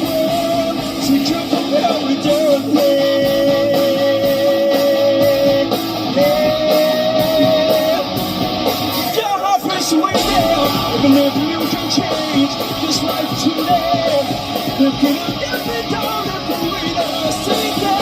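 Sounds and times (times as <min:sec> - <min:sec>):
rock band playing: 0:00.0 - 0:09.2, 0:10.1 - 0:18.0.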